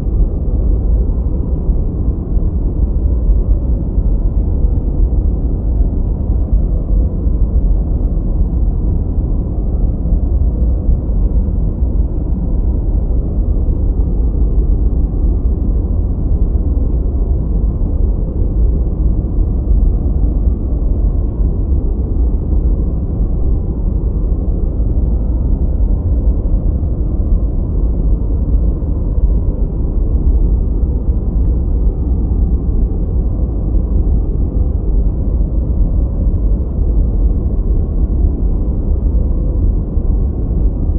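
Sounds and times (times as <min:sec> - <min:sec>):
deep muffled brown noise: 0:00.0 - 0:40.9.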